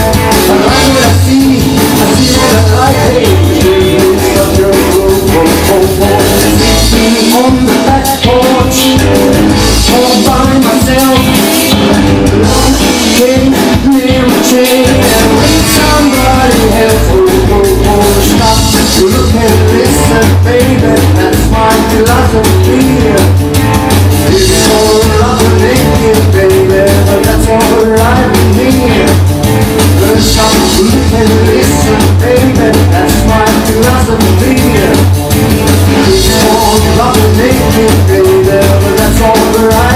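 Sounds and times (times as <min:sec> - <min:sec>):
rock and roll music: 0:00.0 - 0:39.9.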